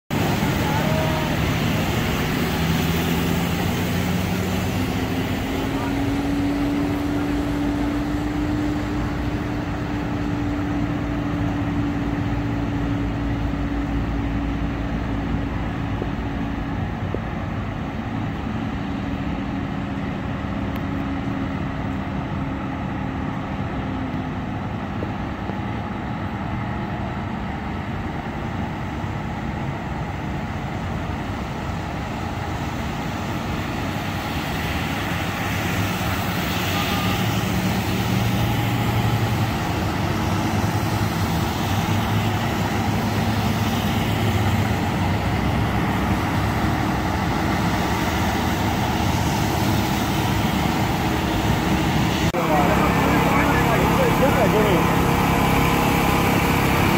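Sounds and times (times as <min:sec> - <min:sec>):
traffic engine noise: 0:00.0 - 0:56.9
tyres hissing through water: 0:00.1 - 0:20.0, 0:30.2 - 0:56.9.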